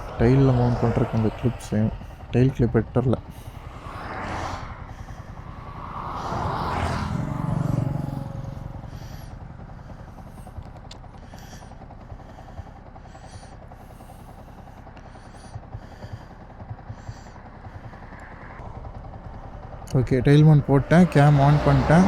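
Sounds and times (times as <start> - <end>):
low background hum: 0.0 - 22.0
motor vehicle passing: 0.0 - 22.0.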